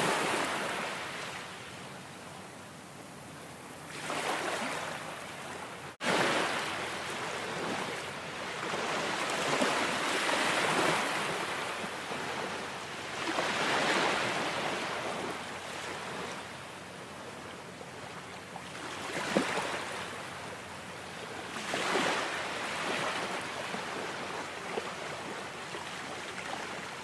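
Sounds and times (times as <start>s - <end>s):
ocean waves washing ashore: 0.0s - 27.0s.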